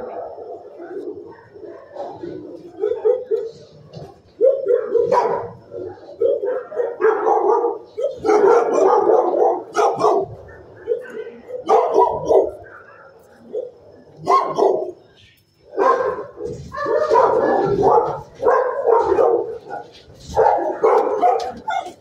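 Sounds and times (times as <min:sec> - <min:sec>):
dogs barking: 0:00.0 - 0:15.0, 0:15.7 - 0:22.0.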